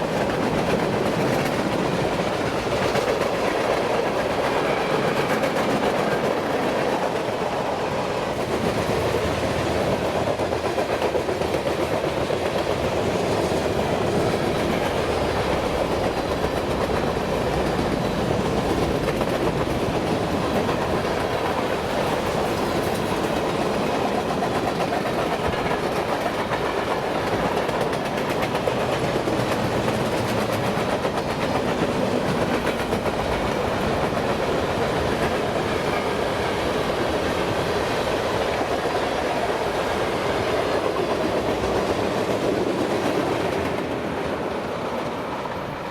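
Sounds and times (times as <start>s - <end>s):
freight train wheels on rails: 0.0s - 45.9s.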